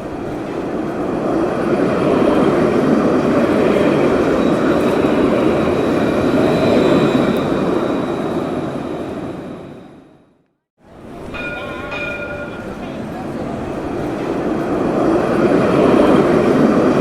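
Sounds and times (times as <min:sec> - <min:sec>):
cable car rumbling on rails: 0:00.0 - 0:10.2, 0:10.8 - 0:17.0.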